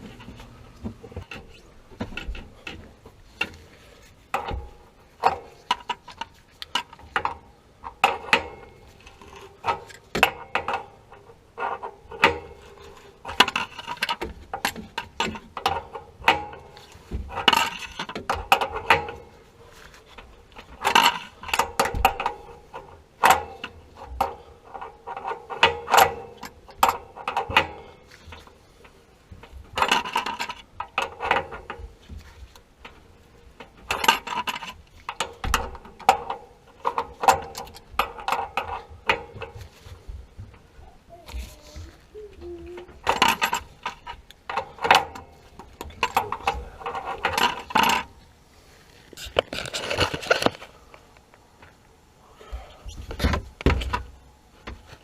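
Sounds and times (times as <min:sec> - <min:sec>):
metallic clicks and clanks of tools: 0:00.0 - 0:40.7, 0:41.3 - 0:48.3.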